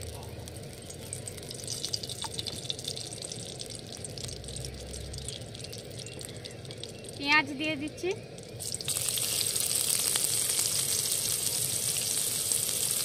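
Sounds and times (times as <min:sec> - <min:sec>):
hot oil crackling: 0:00.0 - 0:13.0.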